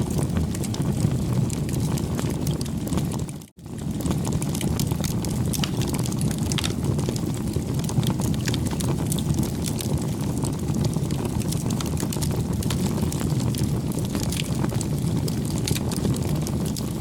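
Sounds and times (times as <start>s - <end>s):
campfire flames rushing: 0.0s - 17.0s
wood crackling and popping: 0.0s - 17.0s.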